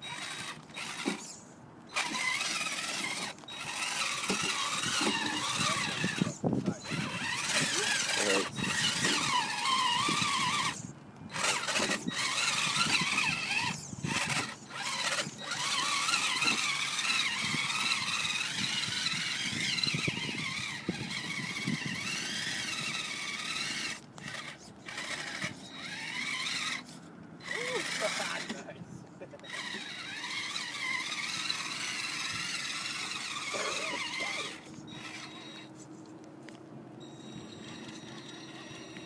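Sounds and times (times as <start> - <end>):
electric toy car motor whining: 0.0 - 28.7, 29.3 - 35.9, 37.0 - 39.0.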